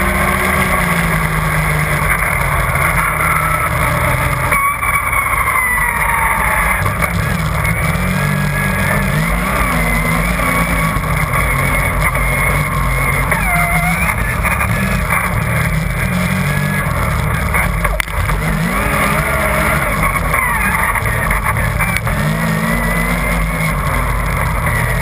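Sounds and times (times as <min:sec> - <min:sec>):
snowmobile engine running: 0:00.0 - 0:25.0
snowmobile track and snow noise: 0:00.0 - 0:25.0.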